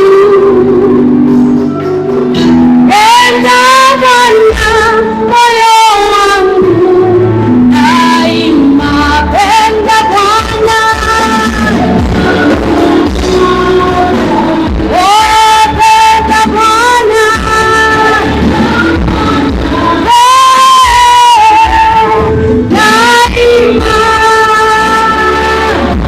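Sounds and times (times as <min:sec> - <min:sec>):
worship music with singing: 0:00.0 - 0:26.0.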